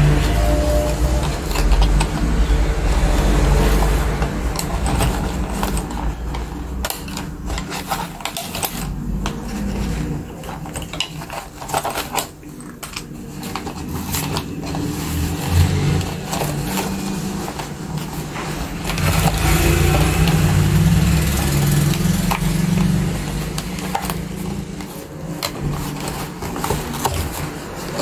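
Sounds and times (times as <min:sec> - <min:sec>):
plastic packaging crackling: 0:00.0 - 0:28.0.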